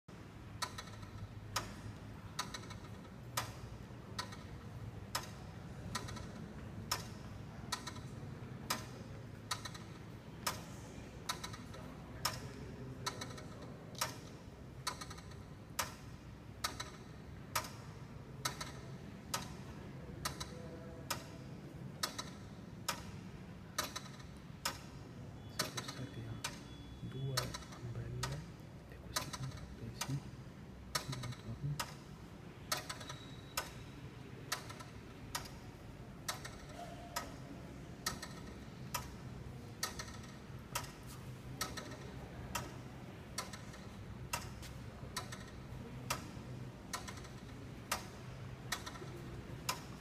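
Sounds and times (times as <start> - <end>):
clock ticking: 0.2 - 50.0.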